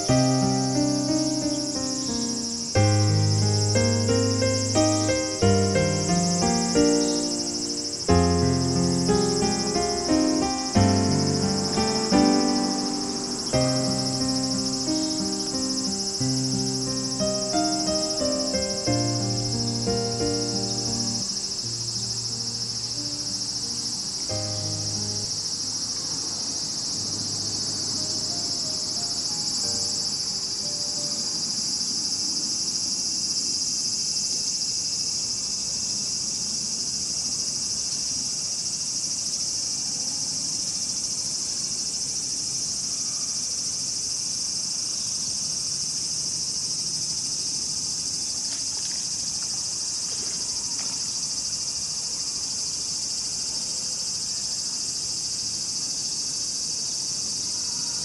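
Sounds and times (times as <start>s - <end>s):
insects chorus shrilling: 0.0s - 58.0s.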